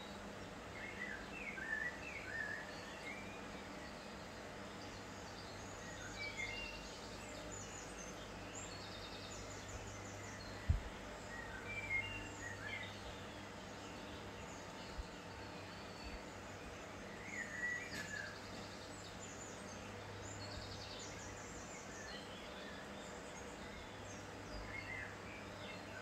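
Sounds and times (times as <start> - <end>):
birds twittering and trilling: 0.0 - 26.0
steady low hum: 0.0 - 26.0.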